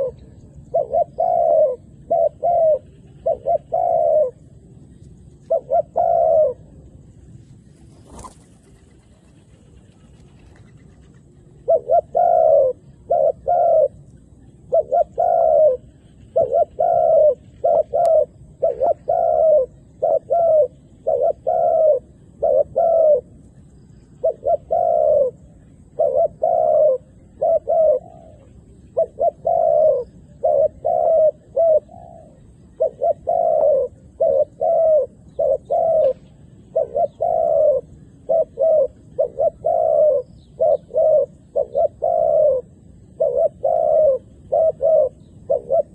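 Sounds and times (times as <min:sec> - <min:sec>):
dove cooing: 0:00.0 - 0:06.9, 0:07.8 - 0:45.9.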